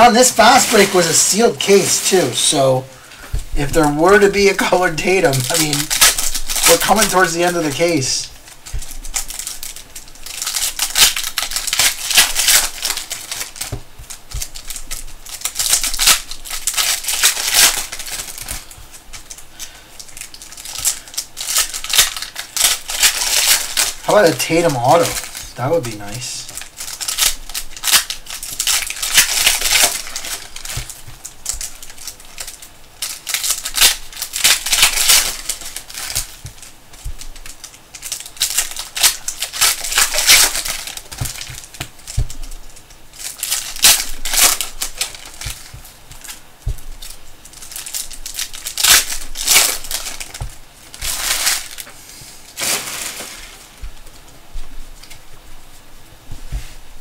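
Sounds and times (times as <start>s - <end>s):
card pack wrappers crinkling: 0.0s - 56.2s.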